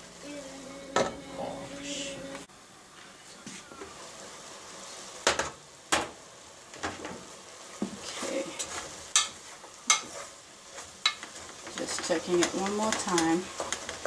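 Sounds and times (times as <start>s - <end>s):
meat sizzling in pot: 0.0s - 14.0s.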